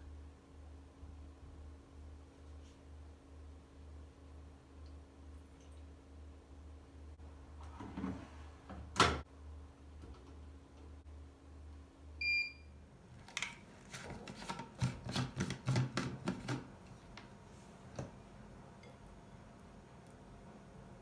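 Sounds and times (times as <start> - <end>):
appliance low hum: 0.0 - 21.0.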